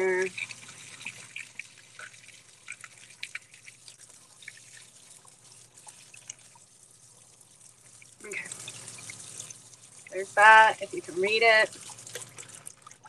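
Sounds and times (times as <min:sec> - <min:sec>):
faucet running into sink: 0:00.0 - 0:13.0
water drips and splashes: 0:00.0 - 0:13.0.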